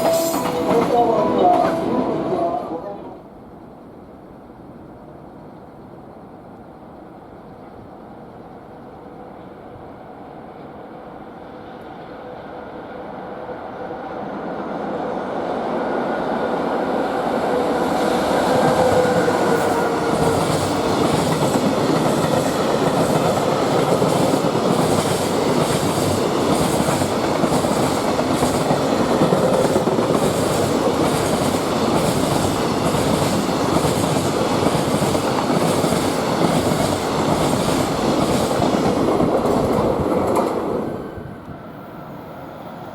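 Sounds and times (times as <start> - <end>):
locomotive whine: 0.0 - 10.4, 11.0 - 42.9
freight train passing: 0.0 - 42.9.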